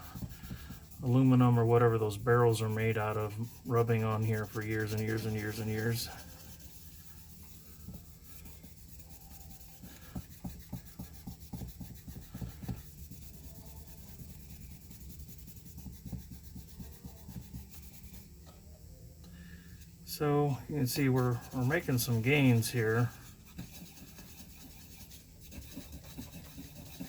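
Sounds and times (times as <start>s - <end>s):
cloth rag rubbing painted metal: 0.0s - 18.4s, 19.8s - 27.0s.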